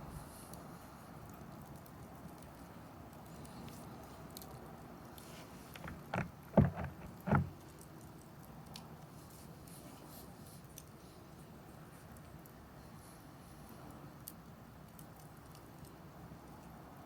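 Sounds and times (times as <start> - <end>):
wood fire crackling: 0.0 - 16.8.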